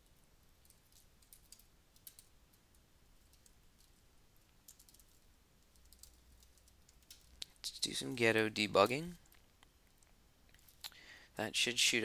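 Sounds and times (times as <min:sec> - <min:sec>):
faint keyboard typing: 0:00.0 - 0:11.0.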